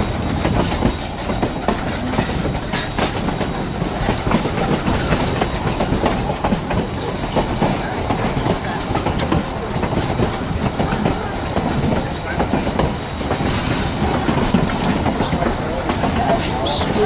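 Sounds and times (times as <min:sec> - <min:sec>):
train clicks and knocks: 0:00.0 - 0:17.0
train wheels rumbling on rail: 0:00.0 - 0:17.0.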